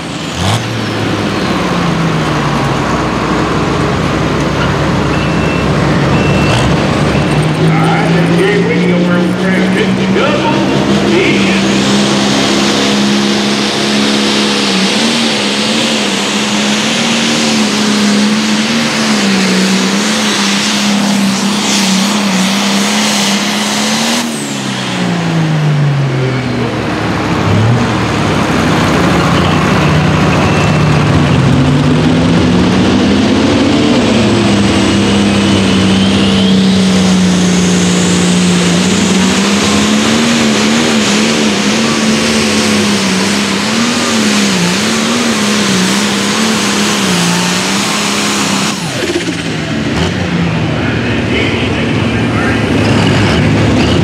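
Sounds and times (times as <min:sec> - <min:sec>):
second tractor engine: 0:00.0 - 0:54.0
tractor diesel engine running: 0:00.0 - 0:54.0.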